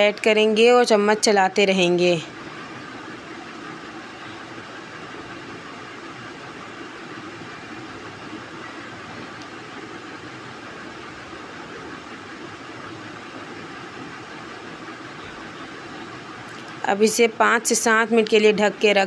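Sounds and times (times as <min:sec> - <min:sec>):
pot boiling hiss: 0:00.0 - 0:19.0.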